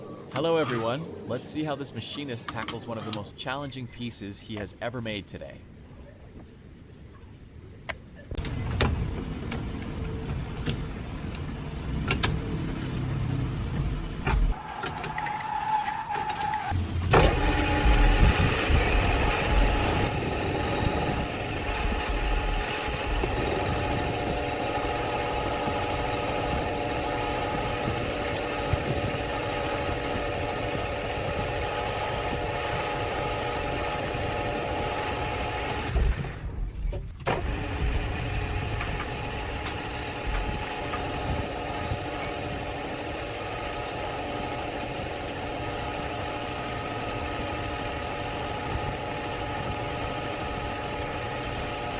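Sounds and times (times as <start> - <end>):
metal lathe running: 8.4 - 36.2, 37.4 - 51.9.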